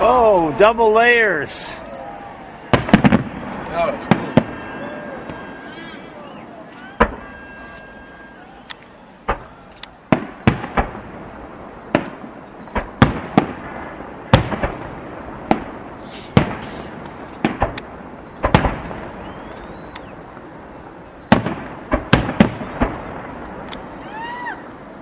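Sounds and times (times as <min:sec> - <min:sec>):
firework shells bursting: 0:02.5 - 0:20.5, 0:21.2 - 0:23.9.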